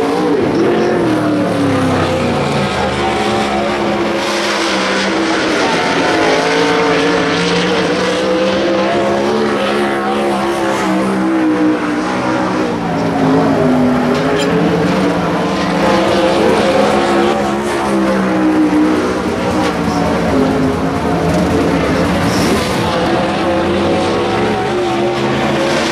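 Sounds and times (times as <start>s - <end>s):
vehicle engines running: 0.0s - 25.9s.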